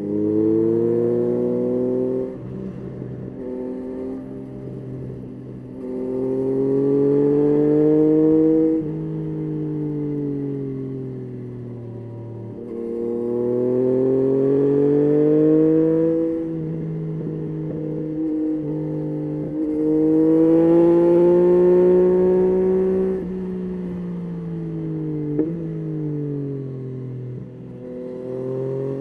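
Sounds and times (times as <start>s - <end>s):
motorcycle engine revving: 0.0s - 9.4s, 11.8s - 25.8s, 27.2s - 29.0s.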